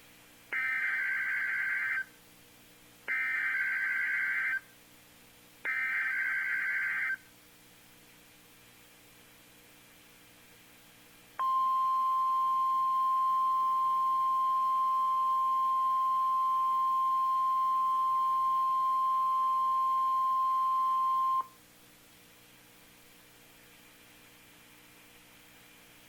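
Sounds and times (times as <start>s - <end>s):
faint radio hiss: 0.0s - 26.0s.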